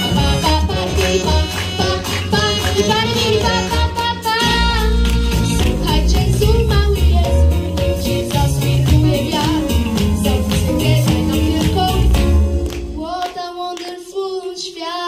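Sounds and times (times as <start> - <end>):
live jazz band playing: 0.0 - 13.0.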